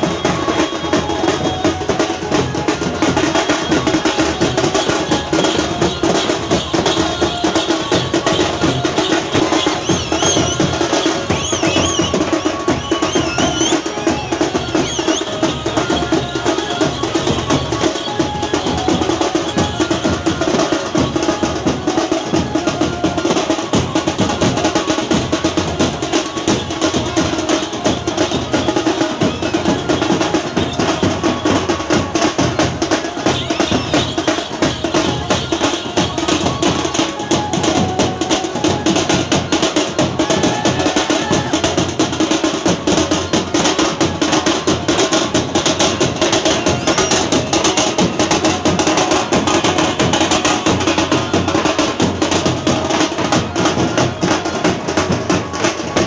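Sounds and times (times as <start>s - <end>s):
fast street drumming: 0.0s - 56.0s.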